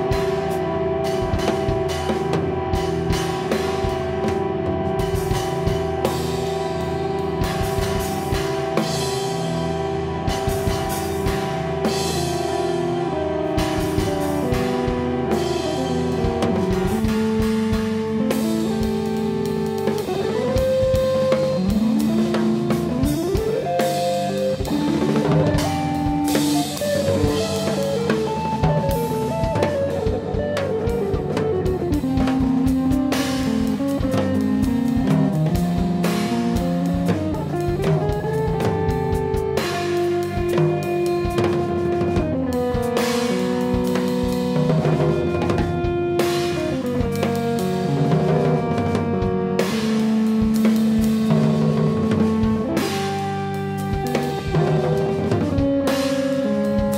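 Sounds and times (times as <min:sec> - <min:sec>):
drum kit playing: 0:00.0 - 0:56.9
electric guitar: 0:00.0 - 0:56.9.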